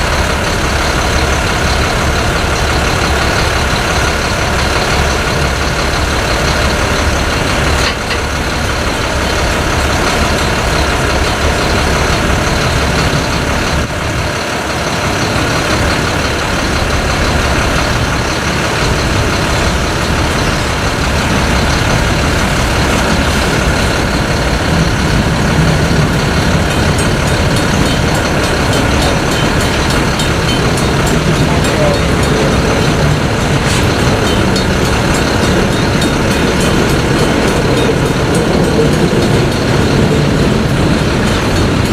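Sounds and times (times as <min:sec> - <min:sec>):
diesel locomotive engines running: 0:00.0 - 0:41.9.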